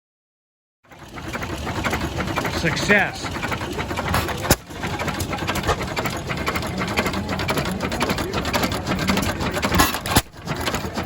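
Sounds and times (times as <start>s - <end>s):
stationary gas engine clattering: 0.8s - 11.0s.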